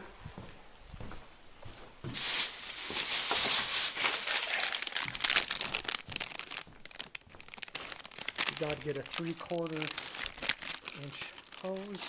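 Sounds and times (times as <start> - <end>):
packaging crinkling: 2.1 - 12.0.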